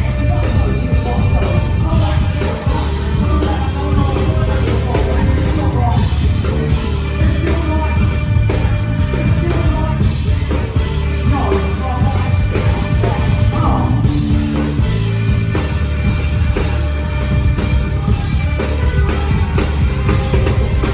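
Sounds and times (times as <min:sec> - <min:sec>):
bass guitar: 0:00.0 - 0:20.9
drum kit: 0:00.0 - 0:20.9
hip-hop band playing: 0:00.0 - 0:20.9.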